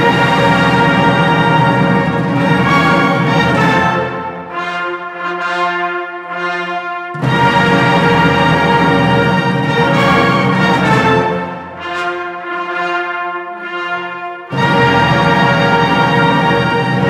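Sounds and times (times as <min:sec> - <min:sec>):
wind band playing funeral march: 0:00.0 - 0:17.0.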